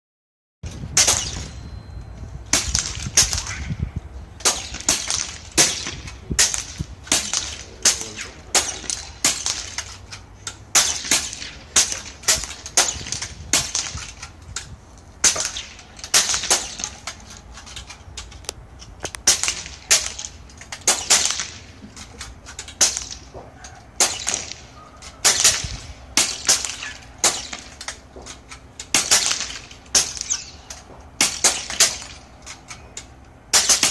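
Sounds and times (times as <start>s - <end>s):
air rifle shots: 1.0s - 1.6s, 2.5s - 3.8s, 4.4s - 10.1s, 10.7s - 14.3s, 15.2s - 17.3s, 19.1s - 32.6s, 33.5s - 33.9s.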